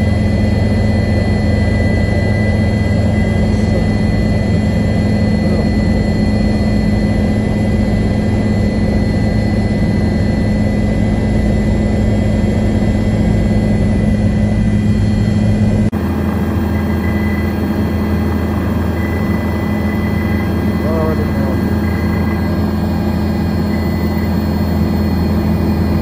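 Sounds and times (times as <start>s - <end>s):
helicopter rotor and turbine drone: 0.0s - 26.0s.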